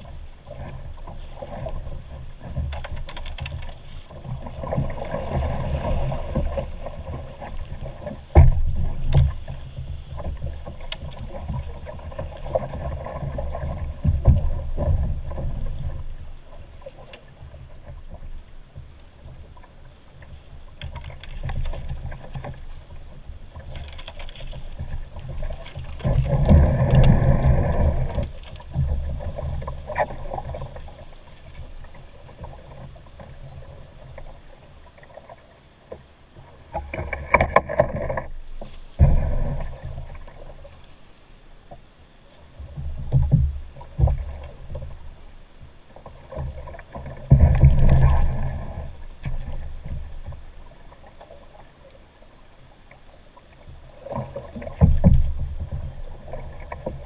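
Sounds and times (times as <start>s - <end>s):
water rushing against hull: 0.0s - 57.0s.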